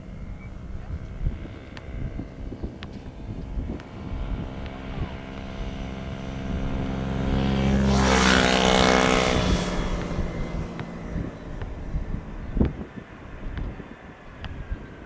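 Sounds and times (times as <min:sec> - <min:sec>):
jet airliner flying past: 0:00.0 - 0:15.0.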